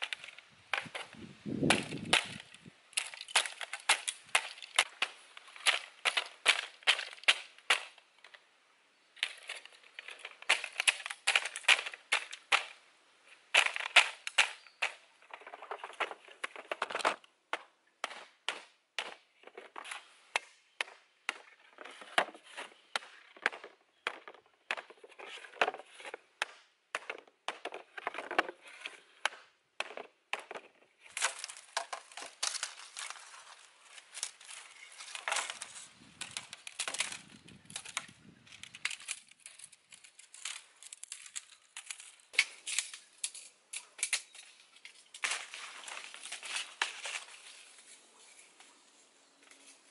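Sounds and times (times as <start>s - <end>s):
bamboo cracking and knocking: 0.0s - 8.5s, 9.2s - 49.9s.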